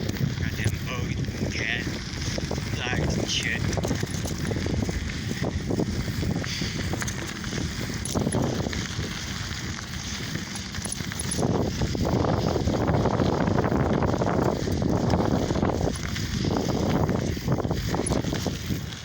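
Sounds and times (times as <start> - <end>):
bicycle tyre and road noise: 0.0 - 19.0
wind rushing over microphone: 0.0 - 19.0.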